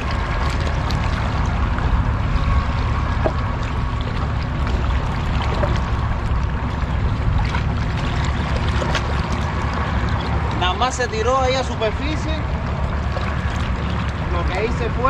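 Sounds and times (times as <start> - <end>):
deep low rumble: 0.0 - 15.0
rushing sea water: 0.0 - 15.0.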